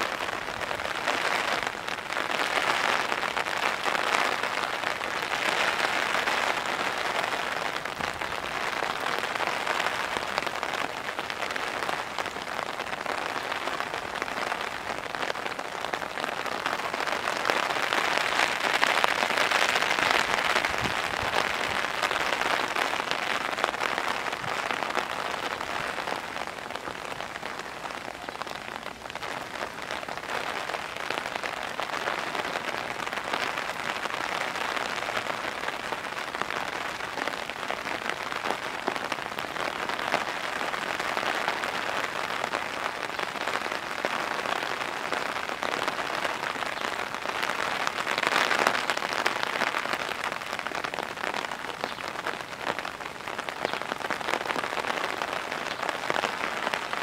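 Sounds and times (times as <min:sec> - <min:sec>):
pouring rain: 0:00.0 - 0:57.0.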